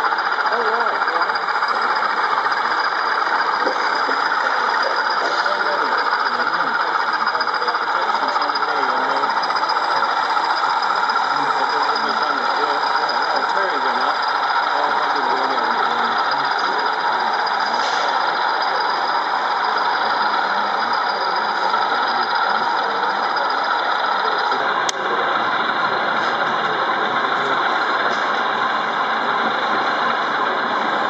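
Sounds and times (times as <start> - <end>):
model locomotive diesel engine sound: 0.0 - 31.0.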